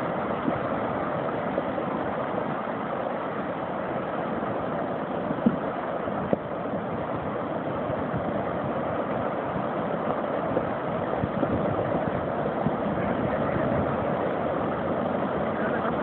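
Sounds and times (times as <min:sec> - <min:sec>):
floodwater rushing through channel: 0:00.0 - 0:16.0.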